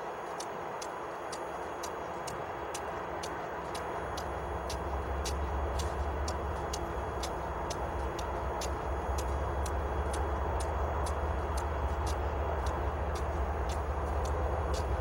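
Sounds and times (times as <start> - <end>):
diesel locomotive idling: 0.0 - 15.0
light regular ticking: 0.0 - 15.0.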